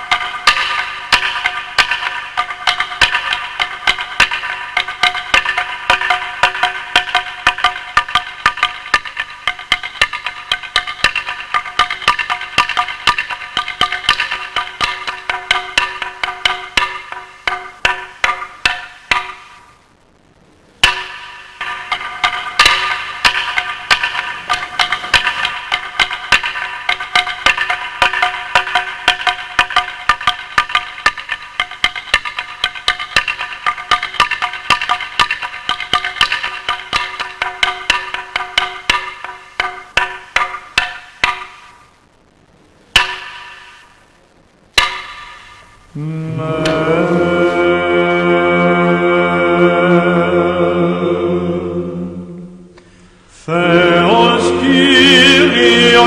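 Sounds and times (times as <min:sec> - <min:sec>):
wooden semantron struck with mallet: 0:00.0 - 0:19.7, 0:20.8 - 0:41.9, 0:42.9 - 0:44.0, 0:44.8 - 0:56.0
wooden percussion strikes: 0:00.0 - 0:19.9, 0:20.8 - 0:56.0.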